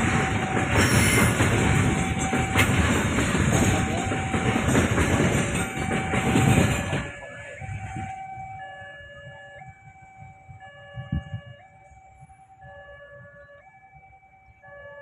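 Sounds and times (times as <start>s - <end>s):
train passing on rails: 0.0s - 15.0s.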